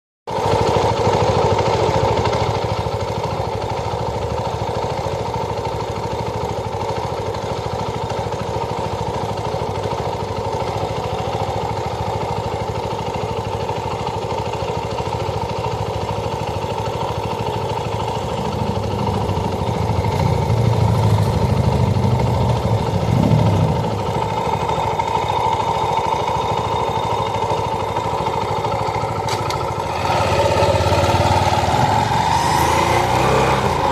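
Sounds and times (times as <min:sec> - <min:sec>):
motorcycle engine running: 0:00.3 - 0:33.9.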